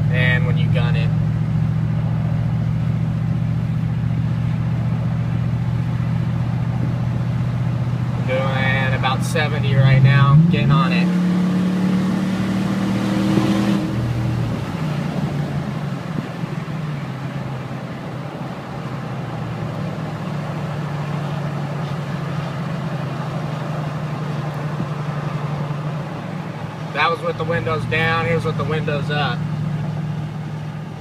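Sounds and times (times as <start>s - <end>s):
truck exhaust drone: 0.0s - 31.0s.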